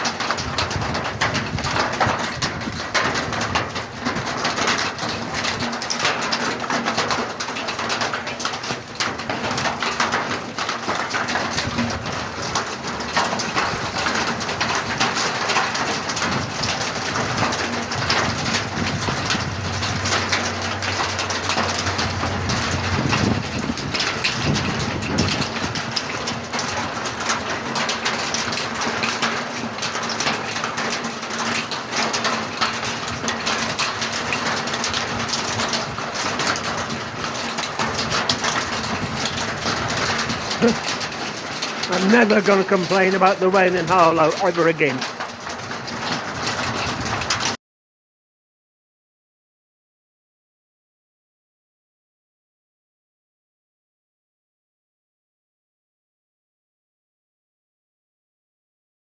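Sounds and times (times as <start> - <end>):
heavy rain pouring: 0.0 - 47.6.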